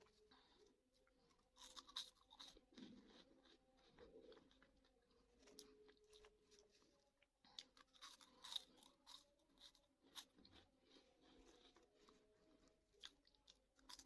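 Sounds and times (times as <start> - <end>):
person chewing crunchy snacks: 0.0 - 14.0.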